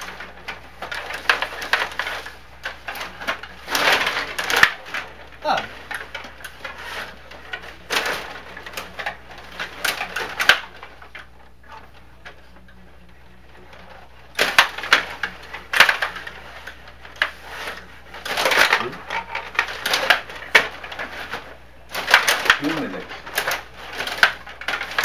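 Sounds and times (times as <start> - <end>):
table hockey players clacking: 0.0 - 12.8, 13.6 - 25.0.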